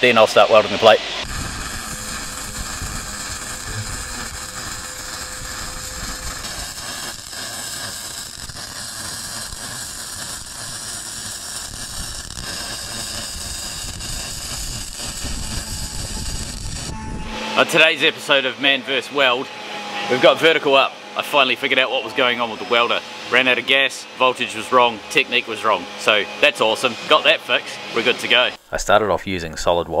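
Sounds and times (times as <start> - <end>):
welding arc crackling: 0.0 - 19.4, 20.2 - 28.6.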